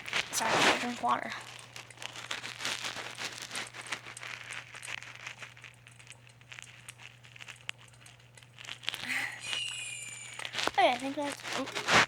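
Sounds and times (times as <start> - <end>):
crinkling and clicking handling: 0.0 - 12.0
person drinking water: 0.0 - 12.0.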